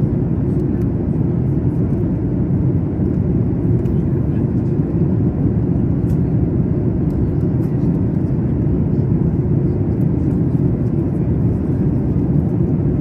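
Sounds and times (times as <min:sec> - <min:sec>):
jet engine cabin drone: 0:00.0 - 0:13.0.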